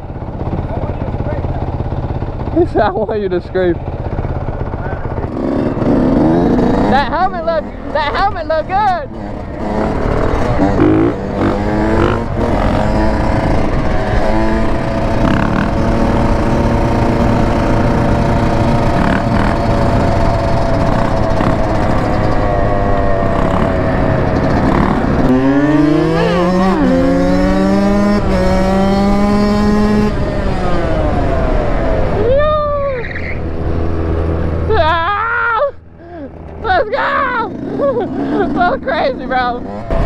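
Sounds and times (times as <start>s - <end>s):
dirt bike engine revving: 0.0s - 32.3s, 36.0s - 40.0s.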